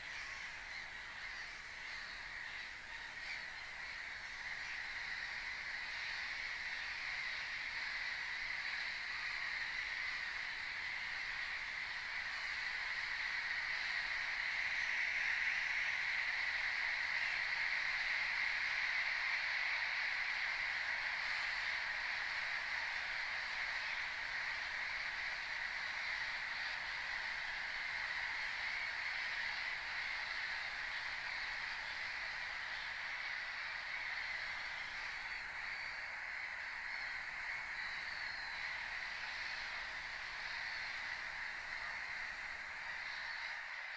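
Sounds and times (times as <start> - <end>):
waterbird colony calling: 0.0 - 43.9.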